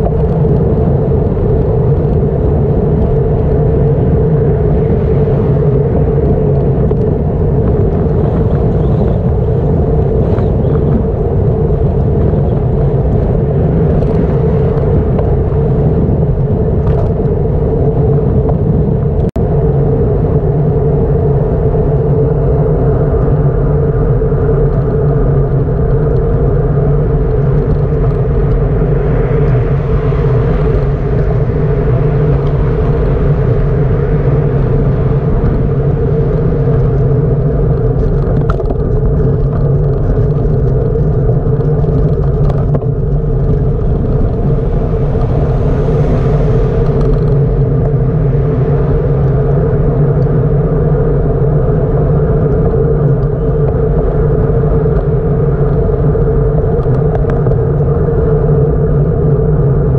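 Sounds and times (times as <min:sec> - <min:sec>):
constant hum: 0:00.0 - 0:59.9
wind and road rumble: 0:00.0 - 0:59.9.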